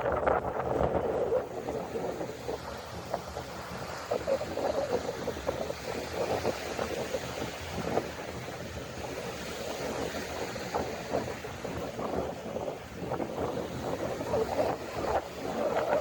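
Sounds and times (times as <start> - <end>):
sea waves: 0.0 - 16.0
wind gusting across microphone: 0.0 - 16.0.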